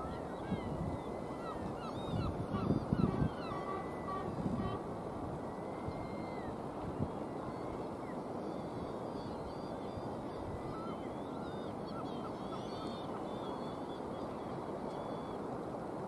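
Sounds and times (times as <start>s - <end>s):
gulls calling faintly: 0.0s - 16.0s.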